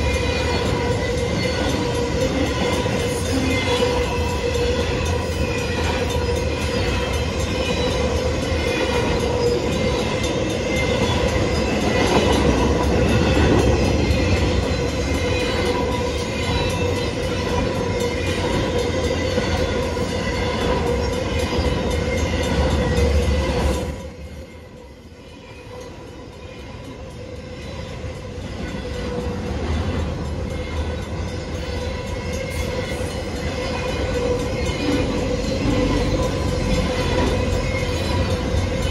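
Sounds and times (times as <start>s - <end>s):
crossing signal bells ringing: 0.0s - 38.9s
freight train rumbling on rails: 0.0s - 38.9s.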